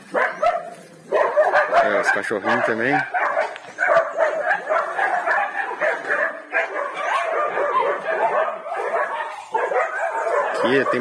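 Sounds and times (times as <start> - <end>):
puppies yapping and whimpering: 0.0 - 11.0.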